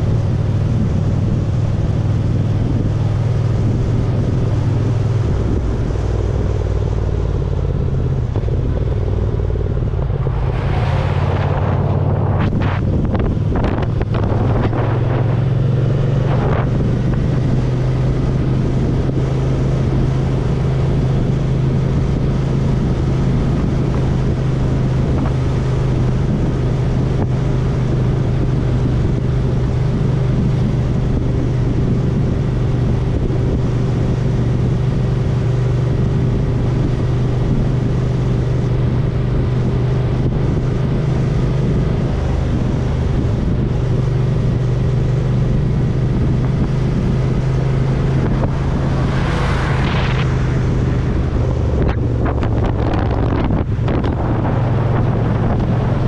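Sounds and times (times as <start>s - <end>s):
motorcycle engine cruising: 0.0s - 56.0s
wind buffeting microphone: 0.0s - 56.0s.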